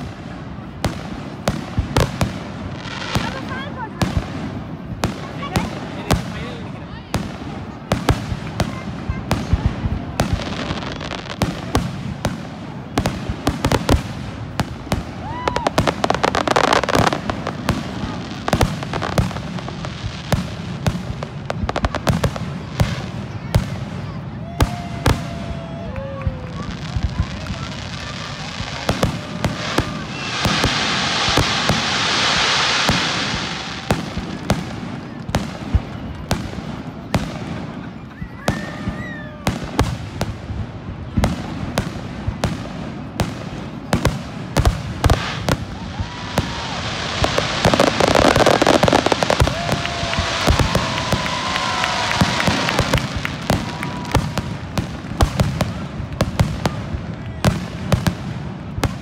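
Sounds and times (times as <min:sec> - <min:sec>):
fireworks bursting with bangs: 0:00.0 - 0:59.0
fireworks crackling: 0:00.0 - 0:59.0.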